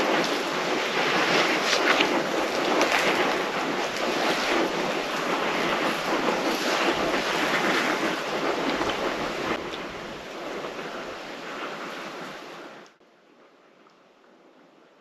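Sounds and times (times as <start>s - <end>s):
wind rushing: 0.0s - 12.9s.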